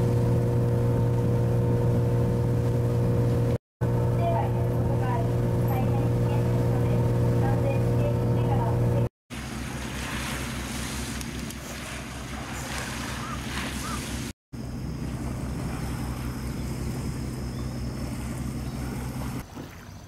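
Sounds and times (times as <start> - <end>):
boat engine humming: 0.0 - 20.0
water rushing: 0.0 - 20.0.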